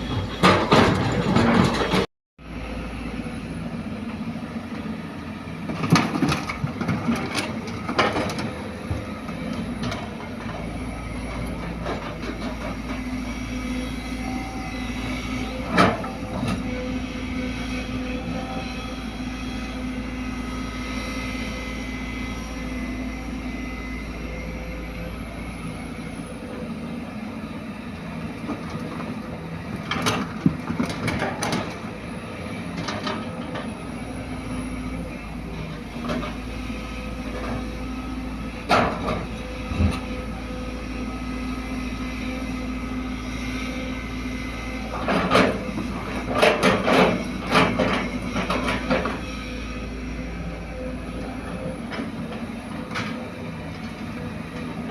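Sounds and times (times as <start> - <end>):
diesel engines running: 0.0 - 54.9.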